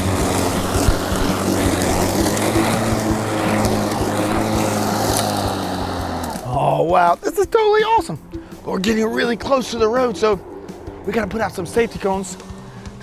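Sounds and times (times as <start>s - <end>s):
push mower cutting grass: 0.0s - 13.0s.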